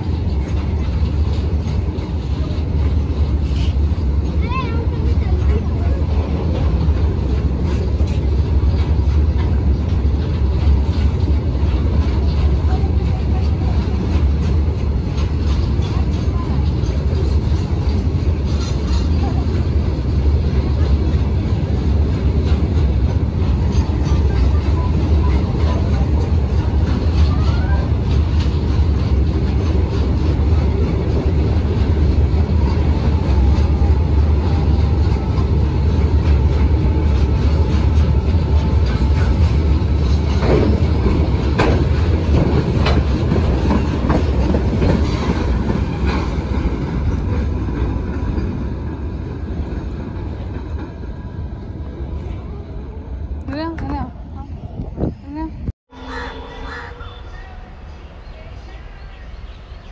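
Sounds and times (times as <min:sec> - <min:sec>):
wheels clattering over rail joints: 0:00.0 - 0:51.3
freight wagons rumbling: 0:00.0 - 0:56.8.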